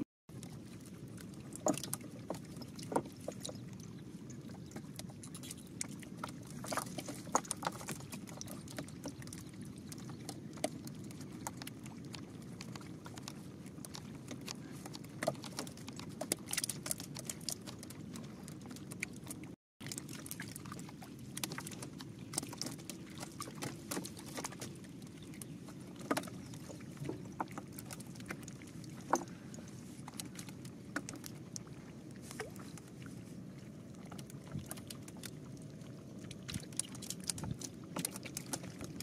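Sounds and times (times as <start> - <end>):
water splashing and dripping: 0.4 - 39.0.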